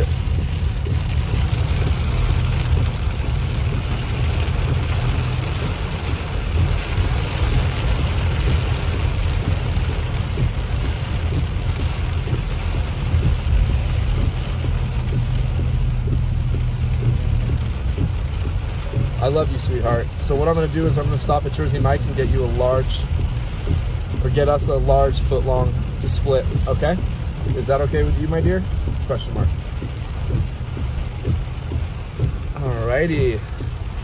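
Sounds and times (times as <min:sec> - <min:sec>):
car road and engine rumble: 0:00.0 - 0:34.0
rain striking car: 0:00.0 - 0:34.0
raindrop taps: 0:00.0 - 0:34.0.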